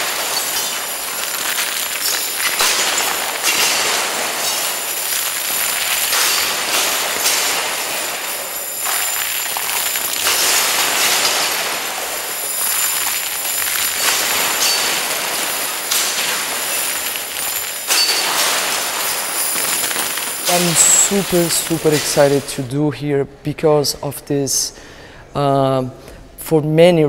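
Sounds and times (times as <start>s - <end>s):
nails clattering on metal: 0.0s - 22.5s.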